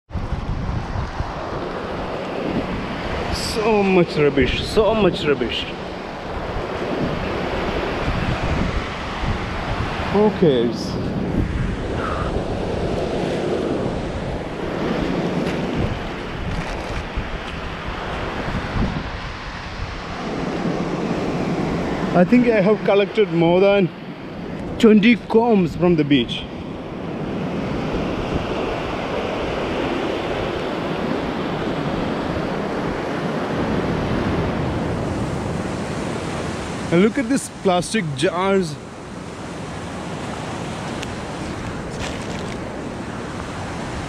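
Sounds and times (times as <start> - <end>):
ocean surf washing: 0.1 - 44.0
wind buffeting microphone: 0.1 - 44.0.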